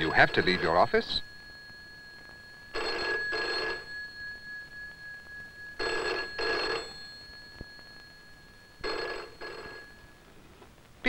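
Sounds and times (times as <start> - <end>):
telephone bell ringing: 0.0 - 10.3.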